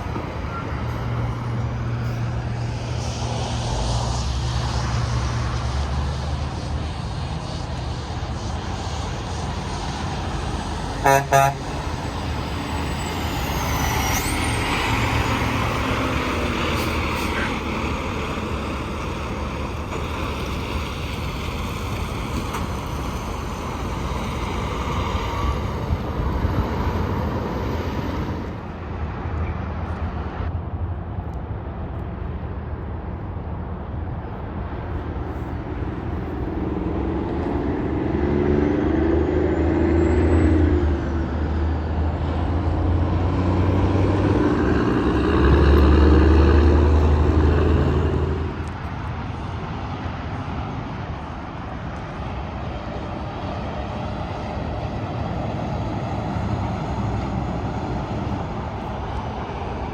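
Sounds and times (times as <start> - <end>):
truck passing by loudly: 0.0 - 30.5, 34.5 - 59.9
highway traffic noise: 0.0 - 59.9.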